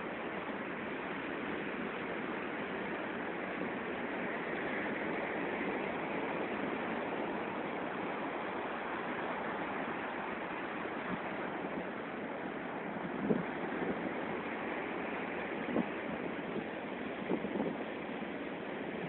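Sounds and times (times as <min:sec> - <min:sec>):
surf rushing on beach: 0:00.0 - 0:19.0.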